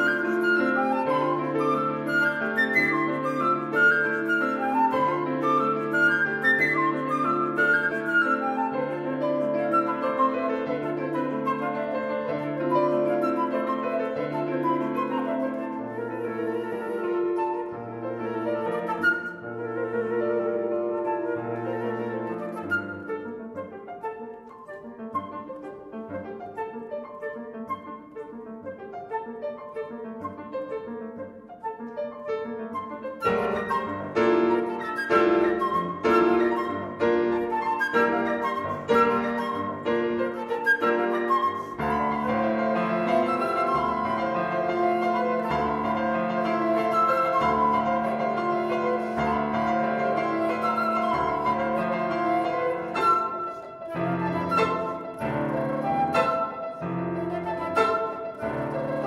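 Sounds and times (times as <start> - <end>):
flute and piano duet: 0.0 - 59.0.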